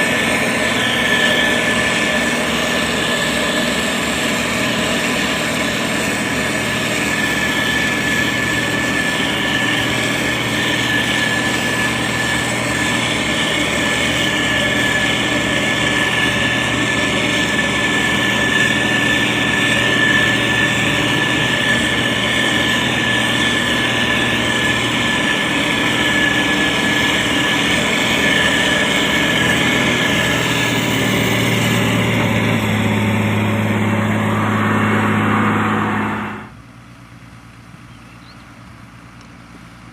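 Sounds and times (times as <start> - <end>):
high whine: 0.0 - 36.8
diesel engine running: 0.0 - 39.9
low hum: 0.0 - 39.9.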